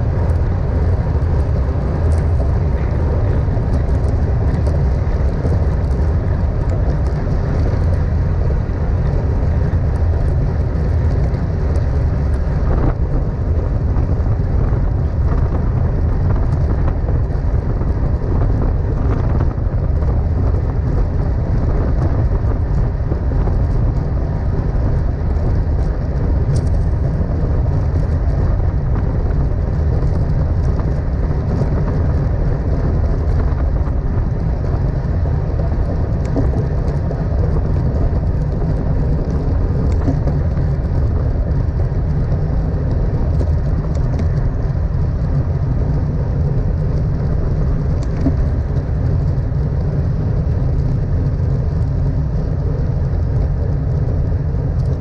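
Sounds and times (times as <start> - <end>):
wind buffeting camera microphone: 0.0 - 55.0.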